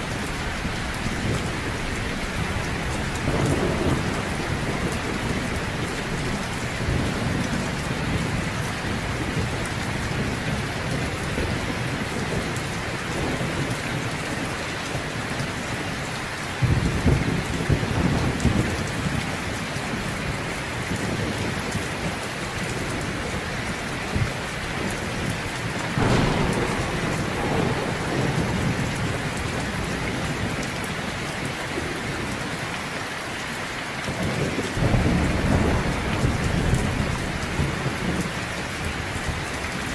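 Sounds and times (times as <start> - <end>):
thunder rumbling: 0.0 - 33.0, 34.0 - 39.9
heavy rain: 0.0 - 39.9.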